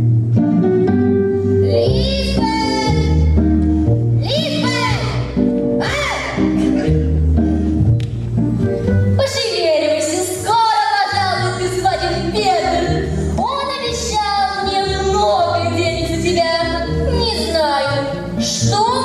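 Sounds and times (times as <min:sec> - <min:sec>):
instrumental accompaniment with bass: 0:00.0 - 0:19.0.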